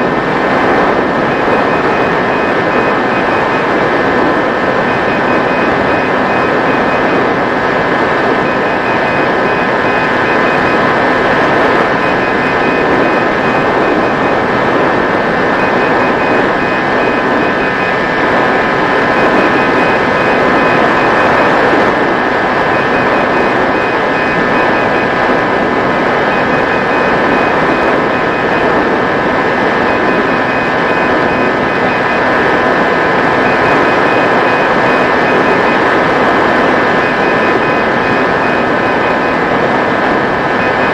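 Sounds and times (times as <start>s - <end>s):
faint beeping: 0.0s - 40.9s.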